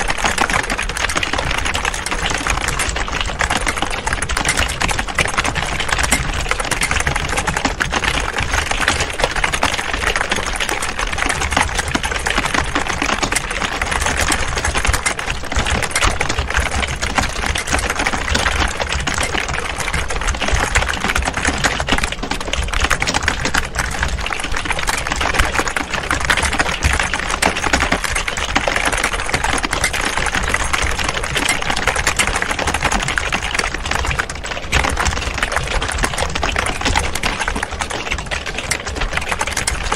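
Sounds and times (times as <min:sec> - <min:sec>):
keyboard typing clatter: 0:00.0 - 0:39.9.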